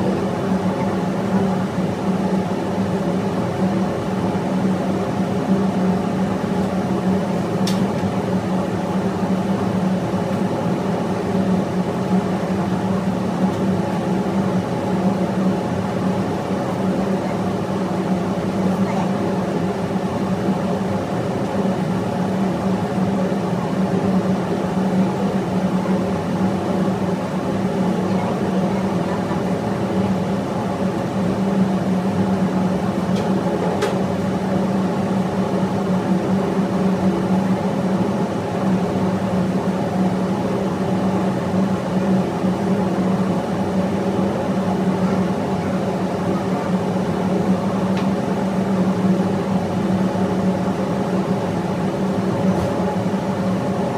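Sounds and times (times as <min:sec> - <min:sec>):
engine room machinery droning: 0:00.0 - 0:53.9.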